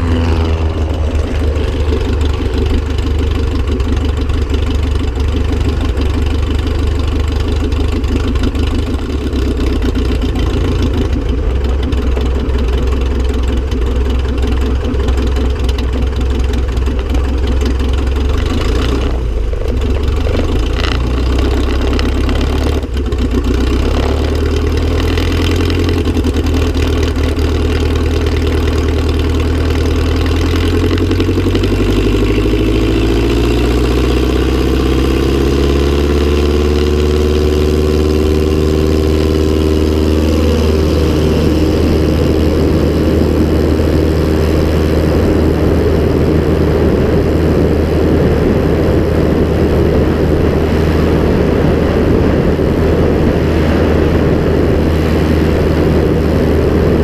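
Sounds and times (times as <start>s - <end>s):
light aircraft engine running: 0.0s - 57.0s.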